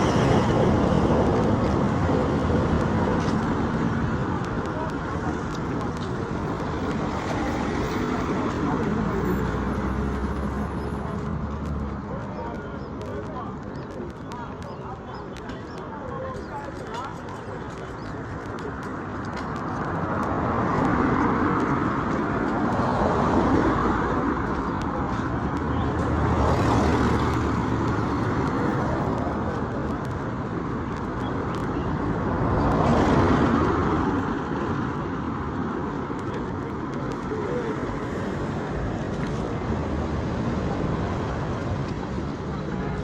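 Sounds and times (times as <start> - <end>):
motor vehicles passing: 0.0 - 43.0.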